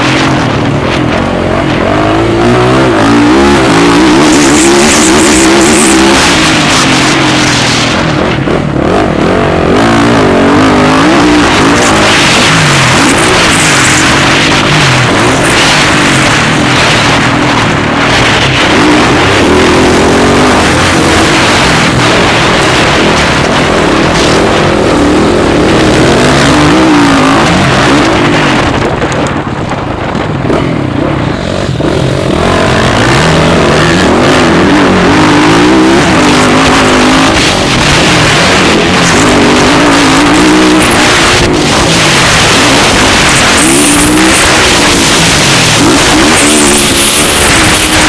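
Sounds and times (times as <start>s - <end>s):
motocross engines revving: 0.0s - 48.0s.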